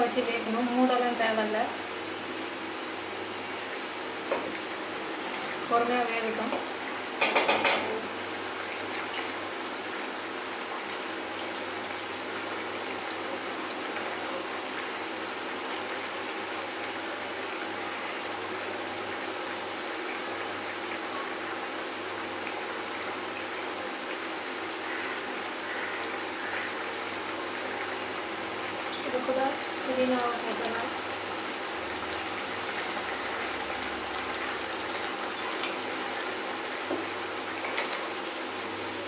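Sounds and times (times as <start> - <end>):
curry bubbling in pan: 1.7 - 39.0.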